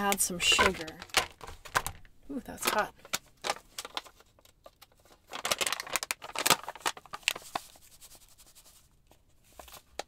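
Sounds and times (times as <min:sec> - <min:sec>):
plastic pouch crinkling: 0:00.0 - 0:08.8.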